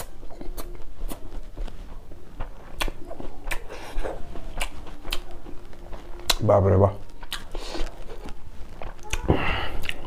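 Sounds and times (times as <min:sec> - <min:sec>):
chewing with wet mouth clicks: 0:00.0 - 0:01.7, 0:02.4 - 0:06.4, 0:07.1 - 0:09.2, 0:09.8 - 0:10.0.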